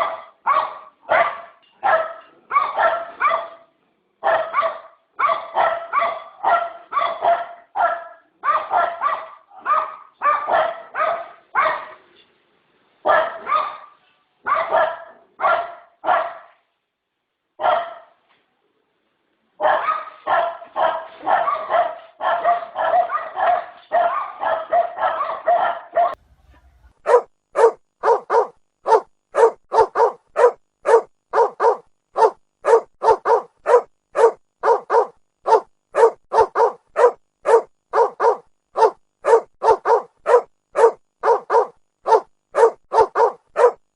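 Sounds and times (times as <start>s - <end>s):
another dog barking steadily: 0.0s - 12.1s, 13.0s - 16.6s, 17.6s - 18.2s, 19.6s - 26.2s, 27.0s - 43.9s
dog barking: 0.0s - 12.1s, 13.0s - 16.6s, 17.6s - 18.2s, 19.6s - 26.2s, 26.9s - 43.9s.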